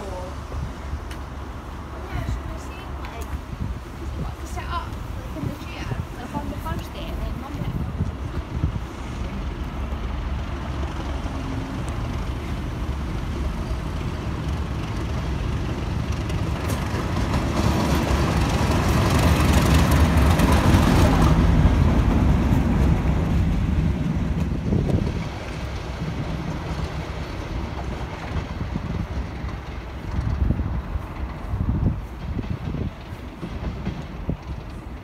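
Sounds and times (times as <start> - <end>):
diesel locomotive engine rumble: 0.0 - 35.0.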